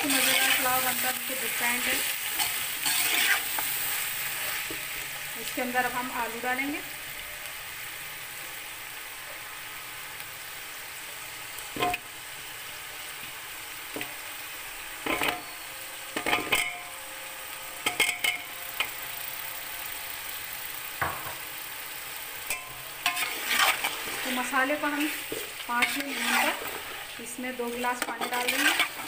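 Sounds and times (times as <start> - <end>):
food sizzling in a pot: 0.0 - 29.0.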